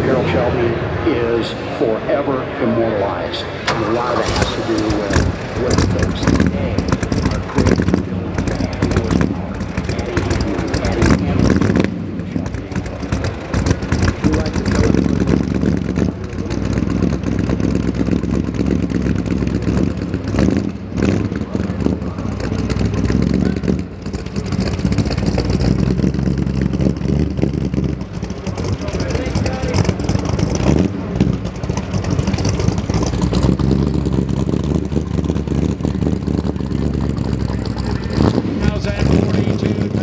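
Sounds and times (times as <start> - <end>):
car engine idling: 0.0 - 40.0
deep pulsing exhaust: 0.0 - 40.0.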